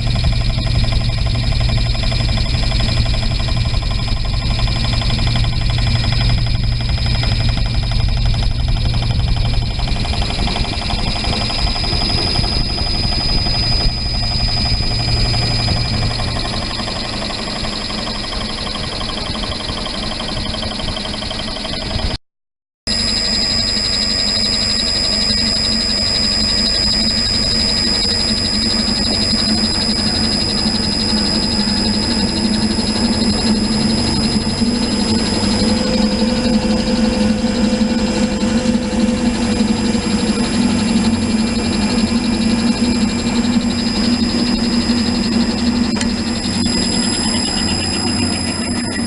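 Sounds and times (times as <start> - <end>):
milling machine whining: 0.0 - 22.2, 22.9 - 49.0.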